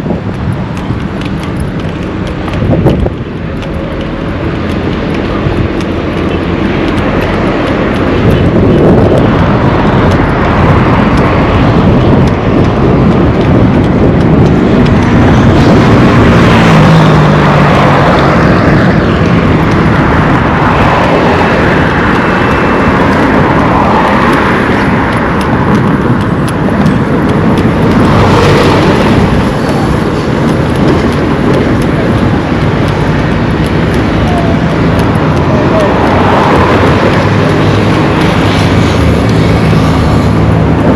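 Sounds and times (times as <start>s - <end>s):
vehicles passing on highway: 0.0s - 40.9s.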